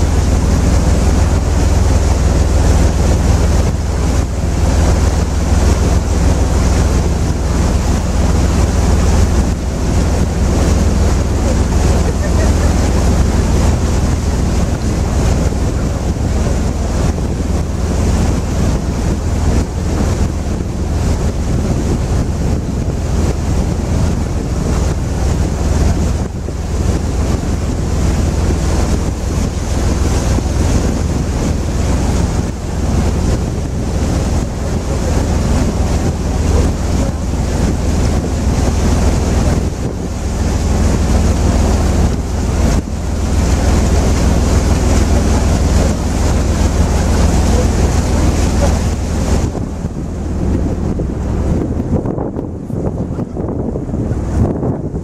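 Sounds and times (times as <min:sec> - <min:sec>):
boat engine drone: 0:00.0 - 0:55.0
wind buffeting microphone: 0:00.0 - 0:55.0.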